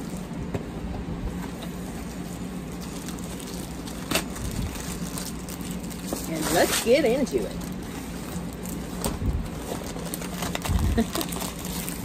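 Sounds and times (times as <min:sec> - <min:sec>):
plastic packaging rustling: 0:01.4 - 0:12.0.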